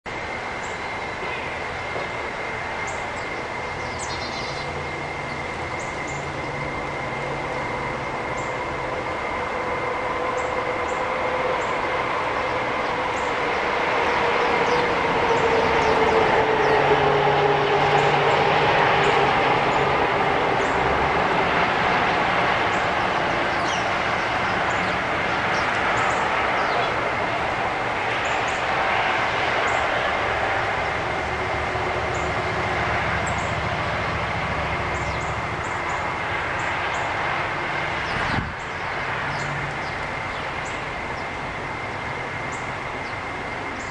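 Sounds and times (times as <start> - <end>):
passing vehicle rumble: 0.1 - 43.9.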